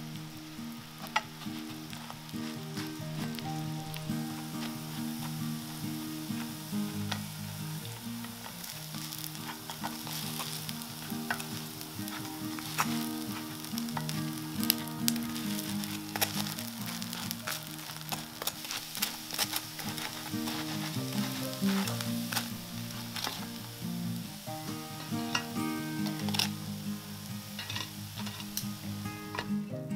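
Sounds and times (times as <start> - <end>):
bread slices sizzling in a pan: 0.0 - 29.9.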